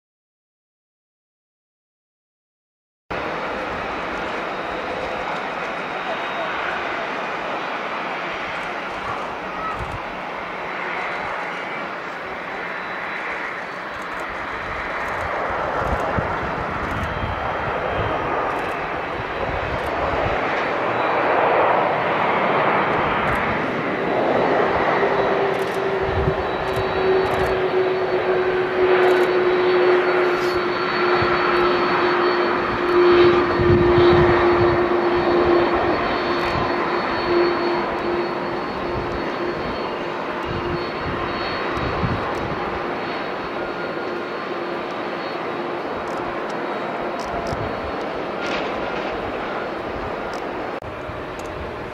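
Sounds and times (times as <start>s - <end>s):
jet airliner landing: 3.1s - 51.9s.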